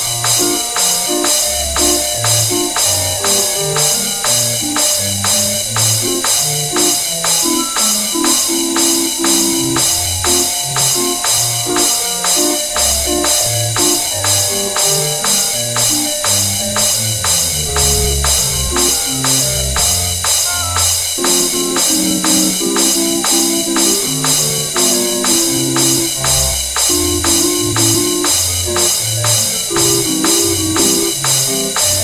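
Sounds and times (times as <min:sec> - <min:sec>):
background music with bouncing bass: 0:00.0 - 0:32.0.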